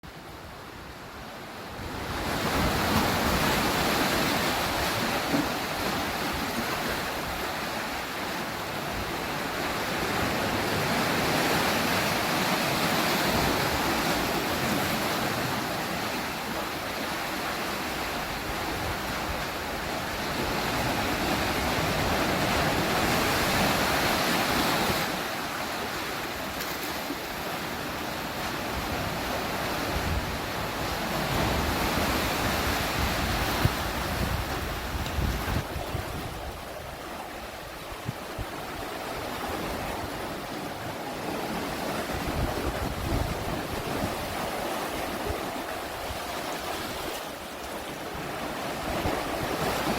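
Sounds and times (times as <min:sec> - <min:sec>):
sea waves washing ashore: 0:00.0 - 0:49.9.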